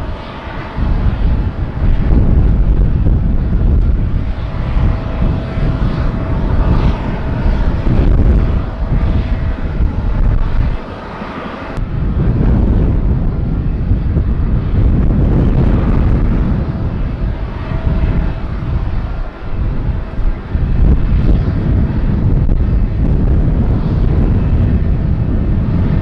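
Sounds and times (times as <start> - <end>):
jet engines rumbling with whine: 0.0 - 26.0.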